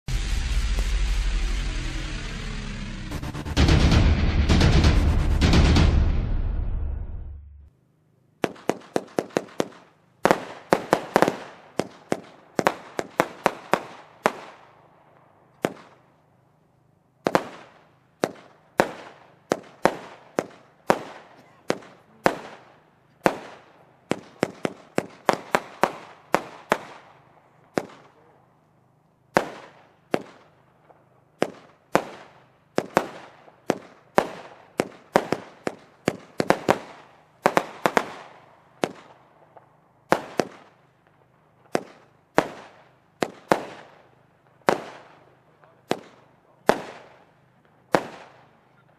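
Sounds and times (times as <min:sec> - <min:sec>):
fireworks banging: 0:00.1 - 0:06.7, 0:08.4 - 0:16.1, 0:17.2 - 0:28.4, 0:29.3 - 0:48.9.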